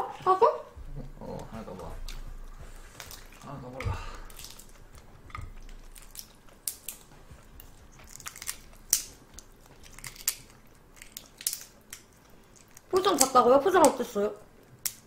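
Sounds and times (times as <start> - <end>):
shrimp shells cracking: 1.4 - 14.0, 14.6 - 15.0.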